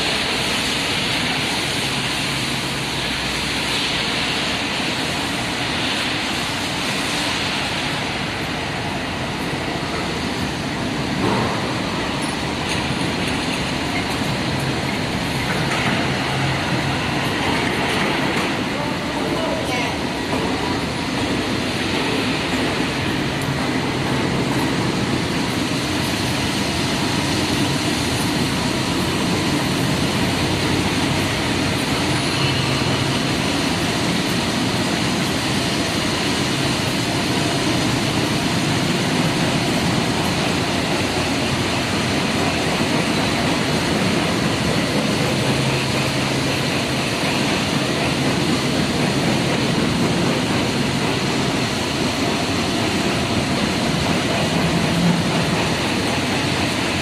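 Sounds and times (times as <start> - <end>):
heavy machinery running: 0.0 - 57.0.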